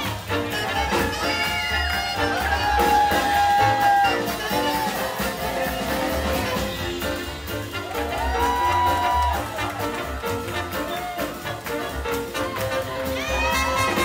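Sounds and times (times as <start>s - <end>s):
swing jazz band playing: 0.0s - 14.0s.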